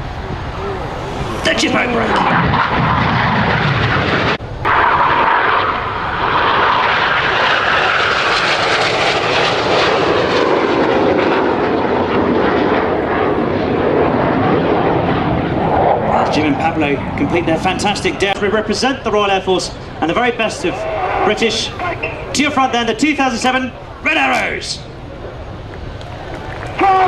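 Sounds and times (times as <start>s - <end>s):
jet roar flying past: 0.0s - 27.0s.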